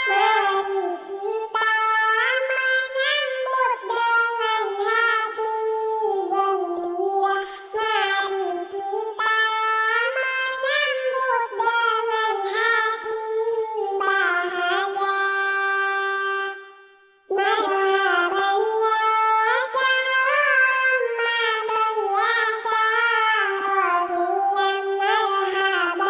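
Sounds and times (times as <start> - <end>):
high pitch-shifted voice singing: 0.0 - 16.6, 17.3 - 26.0.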